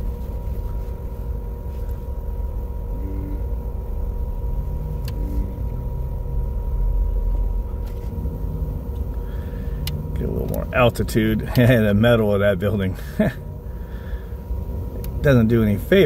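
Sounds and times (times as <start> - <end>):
faint hum: 0.0 - 16.0
vehicle engine rumble: 0.0 - 16.0.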